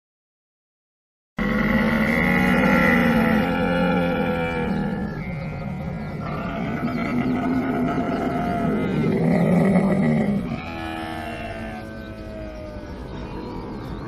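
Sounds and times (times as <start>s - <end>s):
camels calling: 1.4s - 14.0s.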